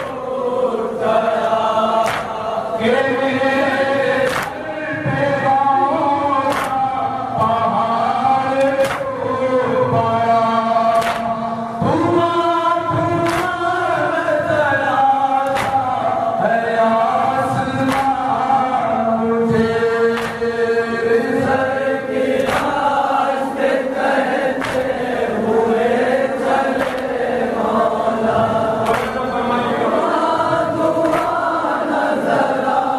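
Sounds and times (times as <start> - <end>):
group of men chanting: 0.0 - 32.9
man chanting a lament: 0.0 - 32.9
sharp rhythmic strikes: 0.0 - 32.9.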